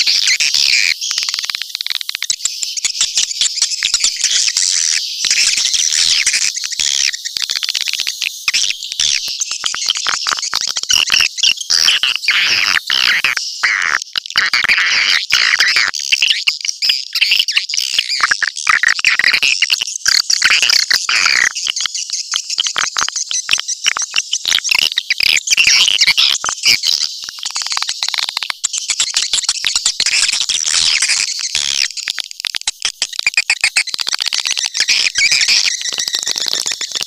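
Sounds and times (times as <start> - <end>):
chittering swiftlet calls: 0.0 - 37.0.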